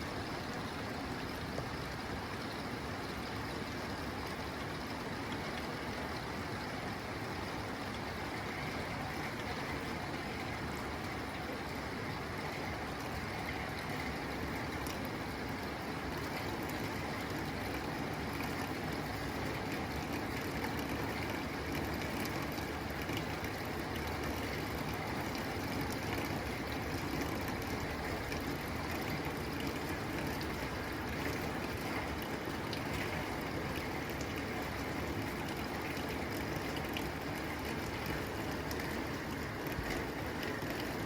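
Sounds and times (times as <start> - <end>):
rain on a tin roof: 0.0 - 41.0.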